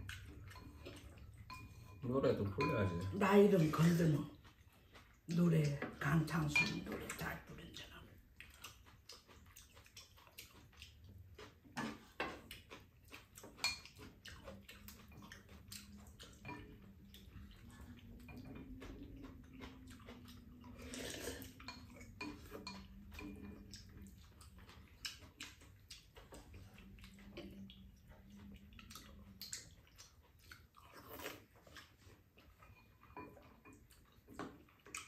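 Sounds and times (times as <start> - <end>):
chopsticks and spoons clicking on dishes: 0.0 - 5.1, 5.7 - 7.3, 8.5 - 35.0.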